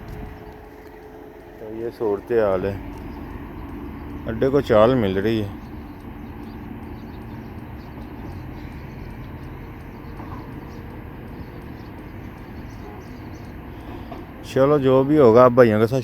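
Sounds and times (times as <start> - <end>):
faint high ticking: 0.0 - 16.0
river background noise: 0.0 - 16.0.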